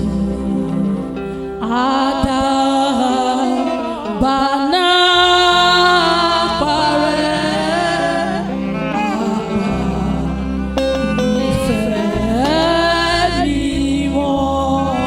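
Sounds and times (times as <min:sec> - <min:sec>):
group singing gospel song: 0:00.0 - 0:15.0
instrumental accompaniment: 0:00.0 - 0:15.0.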